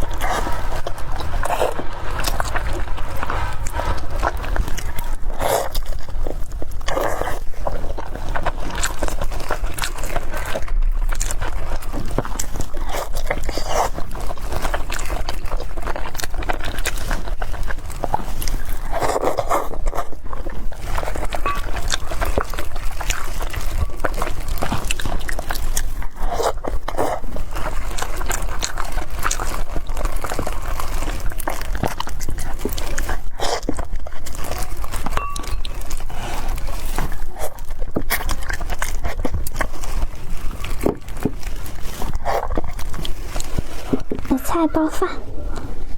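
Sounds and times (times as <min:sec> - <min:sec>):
wet mouth clicks while chewing: 0:00.0 - 0:44.5.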